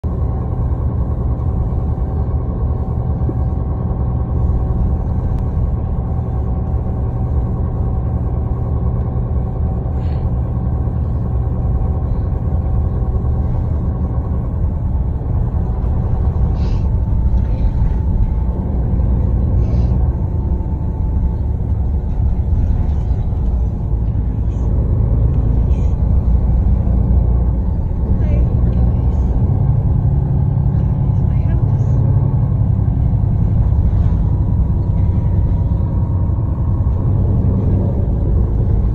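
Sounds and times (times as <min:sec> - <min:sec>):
bus diesel engine rumble: 0:00.0 - 0:38.9
faint whine: 0:00.0 - 0:38.9
road noise: 0:00.0 - 0:38.9.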